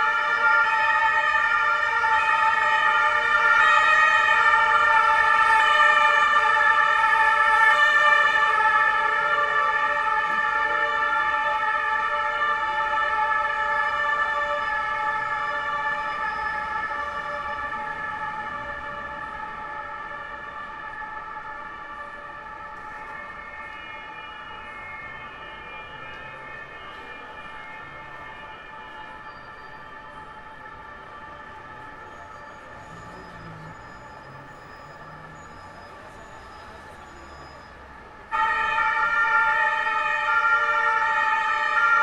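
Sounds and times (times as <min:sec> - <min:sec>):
two-tone police siren: 0:00.0 - 0:42.0.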